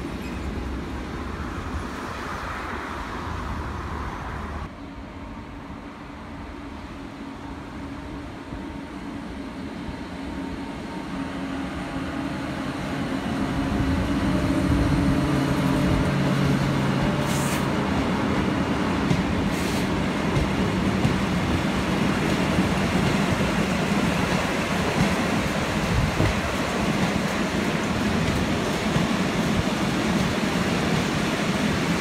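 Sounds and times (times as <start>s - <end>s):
electric locomotive hum: 0.0s - 32.0s.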